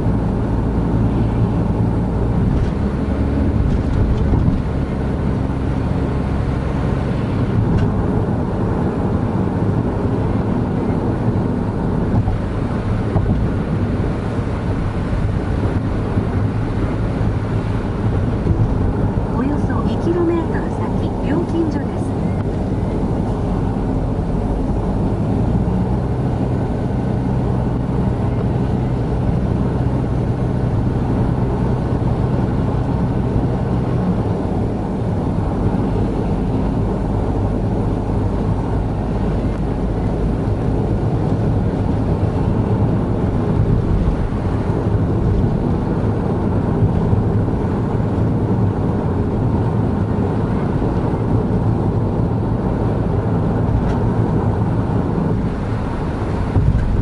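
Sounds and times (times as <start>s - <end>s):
in-cabin road and engine noise: 0.0s - 57.0s
low hum: 0.0s - 57.0s.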